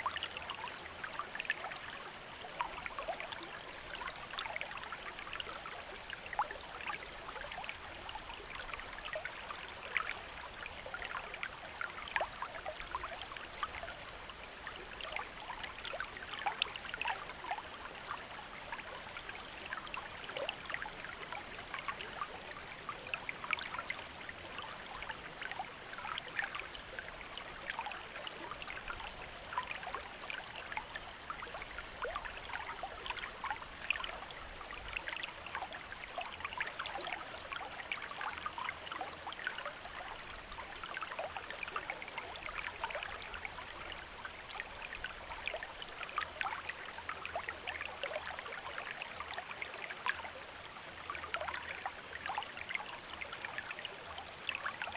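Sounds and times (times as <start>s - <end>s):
water trickling and splashing: 0.0s - 54.9s.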